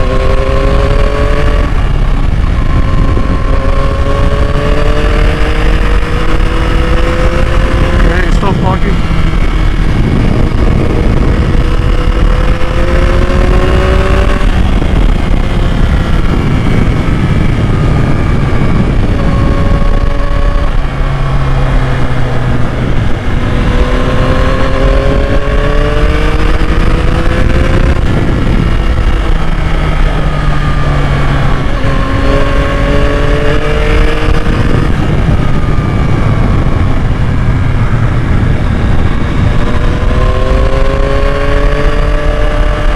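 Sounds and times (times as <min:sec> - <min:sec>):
motorcycle engine accelerating: 0:00.0 - 0:42.9
wind and road noise: 0:00.0 - 0:42.9.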